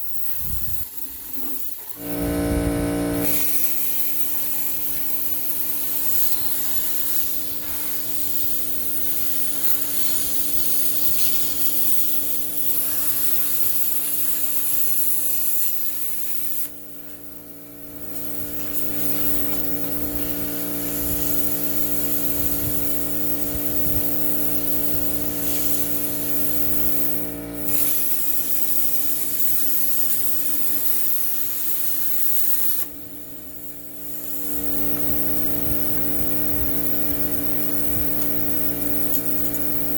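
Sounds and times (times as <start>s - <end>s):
power tool hissing and rubbing: 0.0s - 39.9s.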